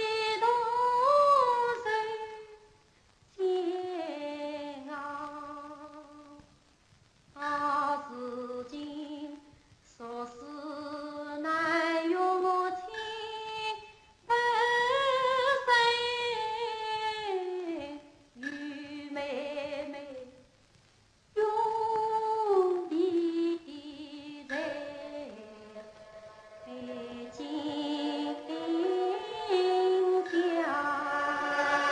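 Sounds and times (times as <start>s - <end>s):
woman singing opera: 0.0s - 2.5s, 3.4s - 6.4s, 10.0s - 20.3s, 21.4s - 31.9s.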